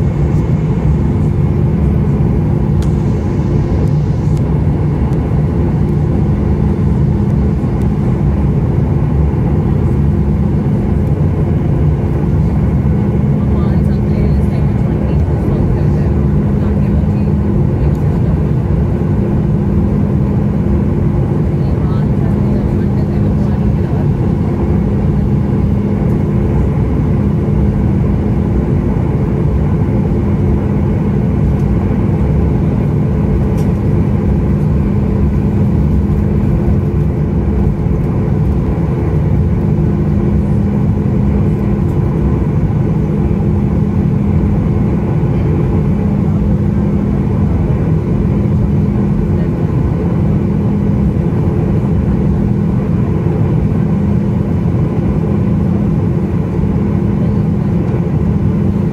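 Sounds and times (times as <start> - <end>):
aircraft cabin engine rumble: 0.0 - 58.9.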